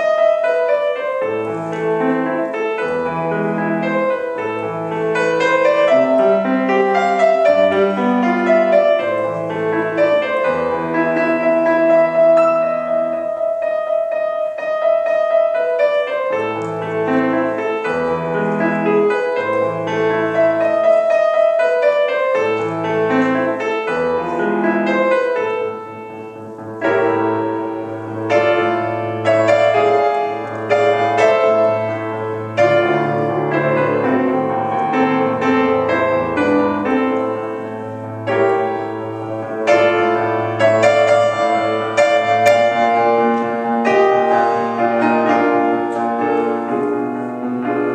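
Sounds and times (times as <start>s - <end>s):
solo piano classical music: 0.0s - 47.9s.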